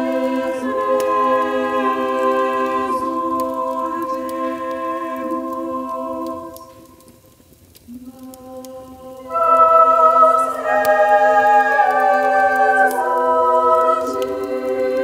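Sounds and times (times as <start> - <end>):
choir singing sustained chords: 0.0 - 7.3, 7.9 - 15.0.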